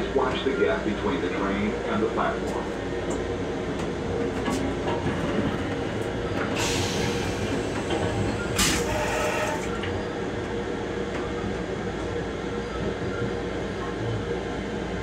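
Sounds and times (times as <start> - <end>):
railcar hum and rumble: 0.0 - 15.0.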